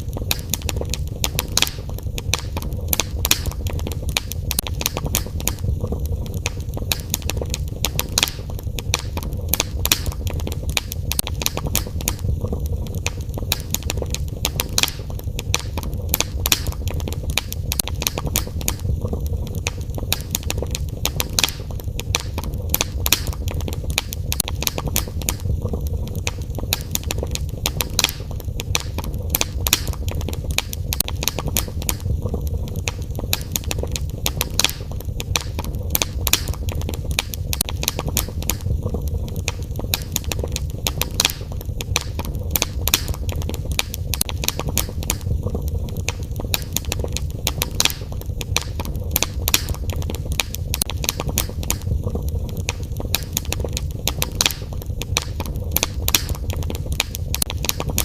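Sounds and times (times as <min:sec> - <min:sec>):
fire crackling in a fireplace: 0:00.0 - 0:58.0.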